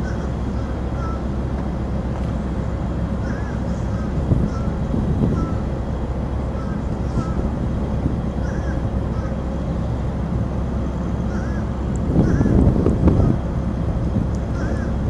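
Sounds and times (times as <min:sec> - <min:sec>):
idling train rumble: 0:00.0 - 0:15.0.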